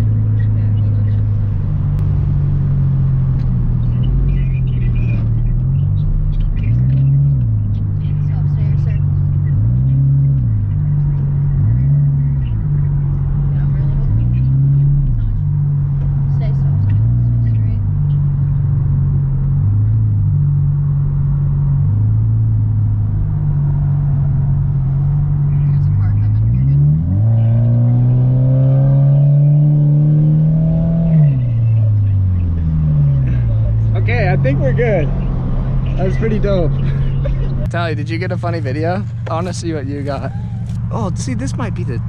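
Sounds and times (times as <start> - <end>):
car engine running: 0.0 - 42.0
road rumble: 0.0 - 42.0.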